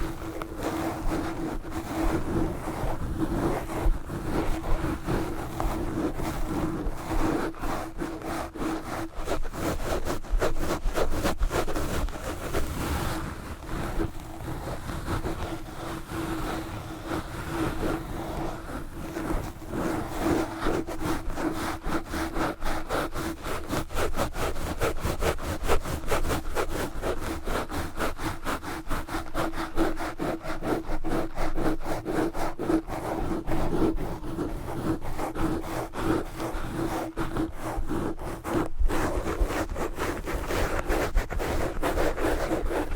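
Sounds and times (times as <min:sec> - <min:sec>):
gloves scratching on microphone: 0:00.0 - 0:42.9.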